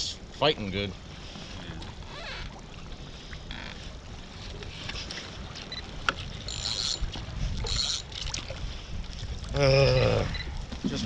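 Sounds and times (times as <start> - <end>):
water lapping against hull: 0.0 - 11.0
wind on microphone: 1.0 - 11.0.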